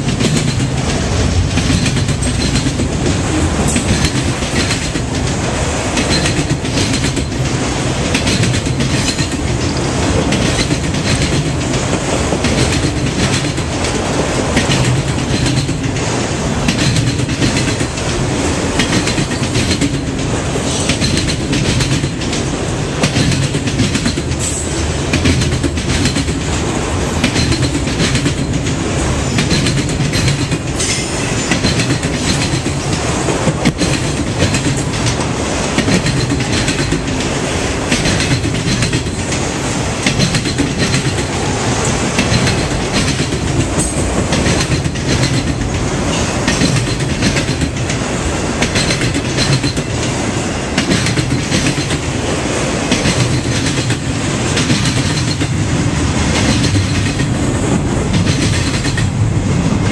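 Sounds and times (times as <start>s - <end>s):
train wheels rumbling on rail: 0.0s - 59.9s
wheels clattering over rail joints: 0.0s - 59.9s.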